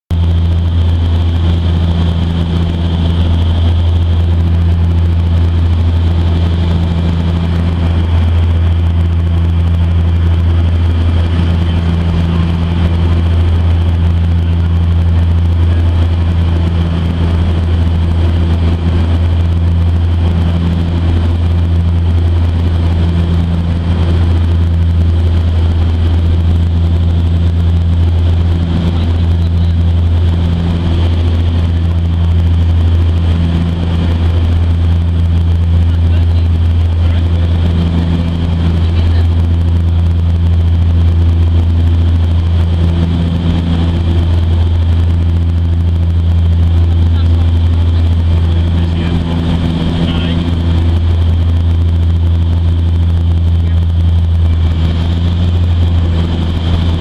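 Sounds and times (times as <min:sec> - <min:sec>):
pulsing low hum: 0:00.0 - 0:57.0
turboprop engines droning: 0:00.1 - 0:57.0.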